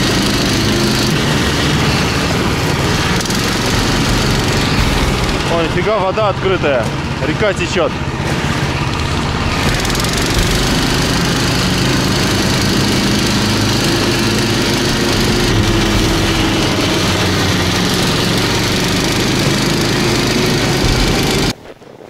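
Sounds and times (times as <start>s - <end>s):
snow tug engine running: 0.0s - 21.6s.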